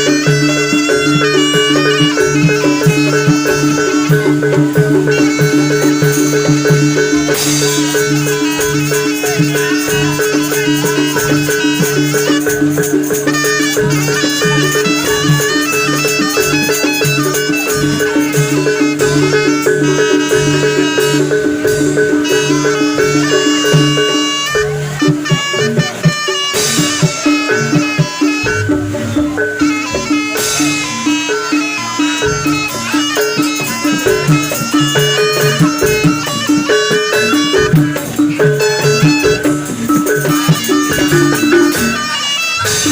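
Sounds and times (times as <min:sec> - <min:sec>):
drums: 0:00.0 - 0:42.9
gamelan gongs ringing: 0:00.0 - 0:42.9
high stepping melody: 0:00.0 - 0:42.9
repeating short pitched notes: 0:00.0 - 0:42.9.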